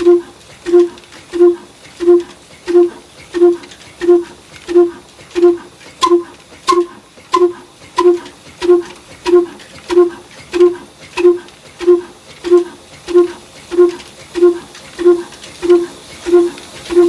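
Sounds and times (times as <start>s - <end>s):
diesel engine running slowly: 0.0s - 17.0s.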